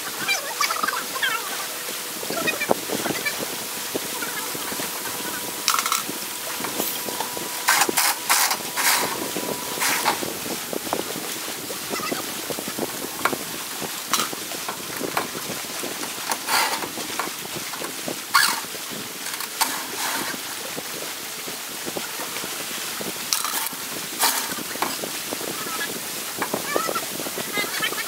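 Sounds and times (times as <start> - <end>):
short water splashes: 0.0 - 28.0
water lapping around waders: 0.0 - 28.0
wind on microphone: 0.0 - 28.0.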